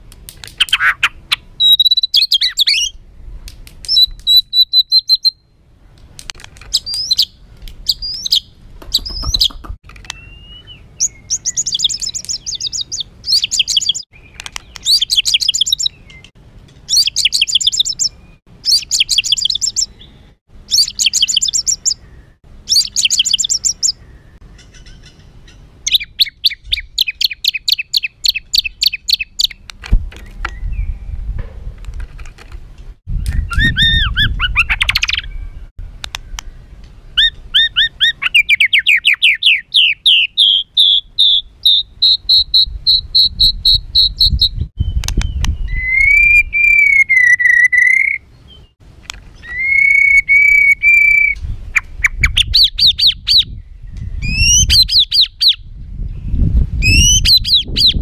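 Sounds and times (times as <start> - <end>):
songbird singing harsh song: 0.5 - 5.6, 6.7 - 31.3, 33.1 - 58.0.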